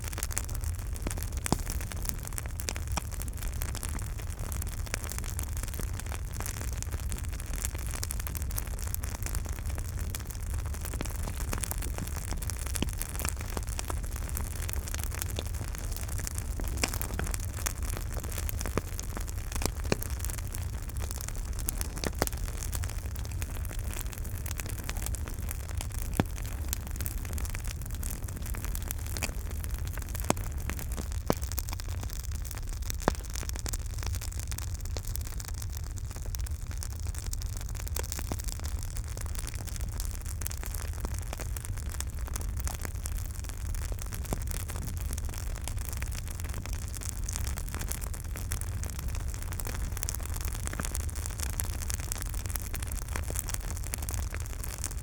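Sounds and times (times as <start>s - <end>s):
campfire rumble and hiss: 0.0s - 55.0s
fire crackling: 0.0s - 55.0s
fire popping: 0.0s - 55.0s.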